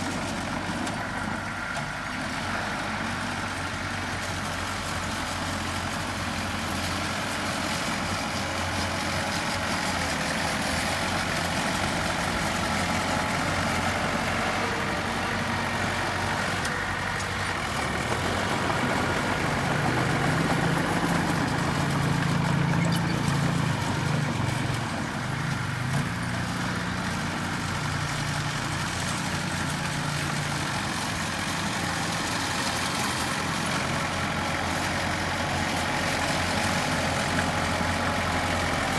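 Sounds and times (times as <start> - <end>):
earthmoving machine diesel engine: 0.0 - 38.9.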